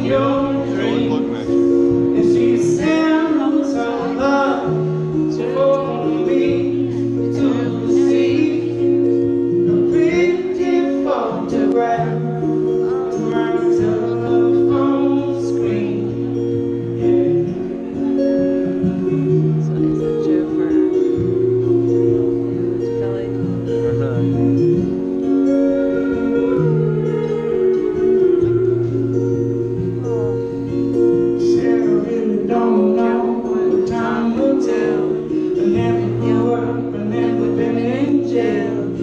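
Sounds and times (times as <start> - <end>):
acoustic guitar: 0.0 - 39.0
man singing: 0.0 - 39.0.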